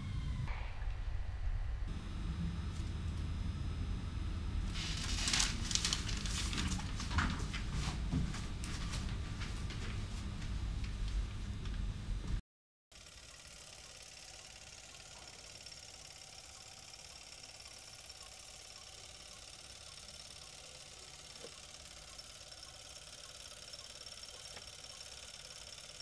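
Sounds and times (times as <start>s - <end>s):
film projector whirring: 1.9s - 26.0s.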